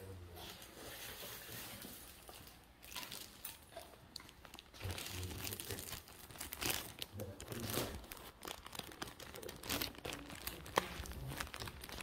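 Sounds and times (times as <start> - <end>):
plastic packaging crinkling: 2.4 - 12.0.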